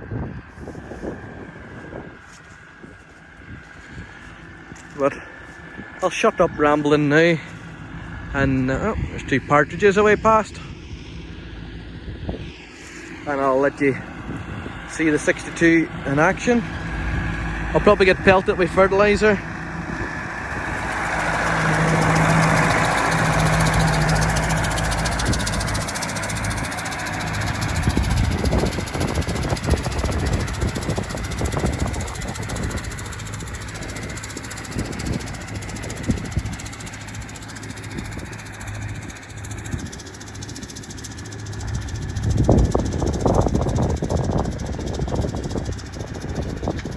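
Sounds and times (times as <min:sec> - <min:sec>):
tractor running past: 0:00.0 - 0:46.9
fertiliser spreader working: 0:00.4 - 0:46.9
low thumps and rumble: 0:07.5 - 0:46.9.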